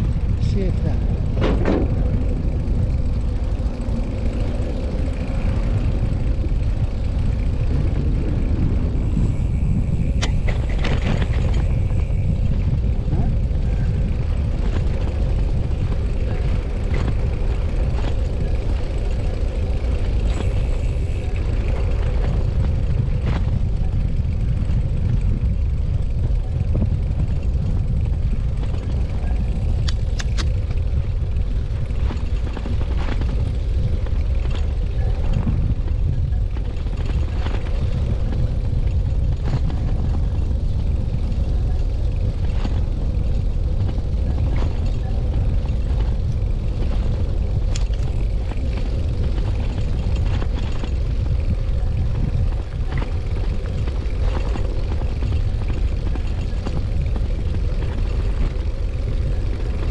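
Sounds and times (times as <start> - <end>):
bicycle tyre and road noise: 0.0 - 59.9
small clicks and rattles: 0.0 - 59.9
wind rumble on microphone: 0.0 - 59.9.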